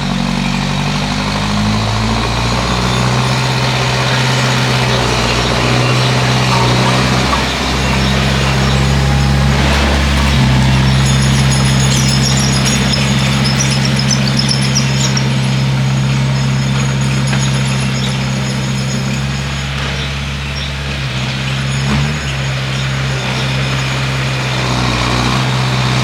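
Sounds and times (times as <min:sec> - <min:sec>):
bulldozer diesel engine running: 0:00.0 - 0:26.0
high-pitched squeaking: 0:01.7 - 0:24.2.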